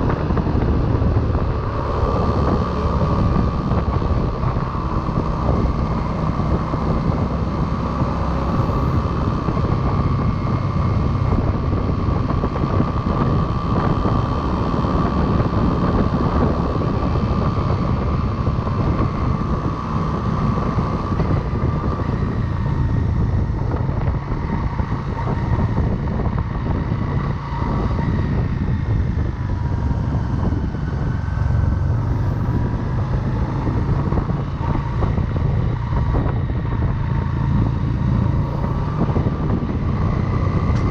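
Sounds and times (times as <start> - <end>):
motorcycle engine: 0.0 - 40.9
wind noise: 0.0 - 40.9.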